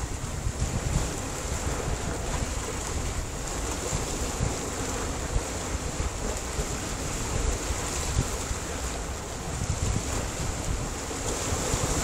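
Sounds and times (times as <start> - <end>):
waves splashing on rocks: 0.0 - 12.0
wind rumbling on microphone: 0.0 - 12.0.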